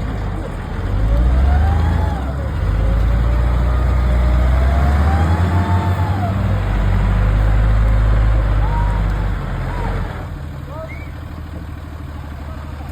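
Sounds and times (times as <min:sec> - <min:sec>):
engine whine: 0:00.0 - 0:12.9
truck engine running: 0:00.0 - 0:12.9.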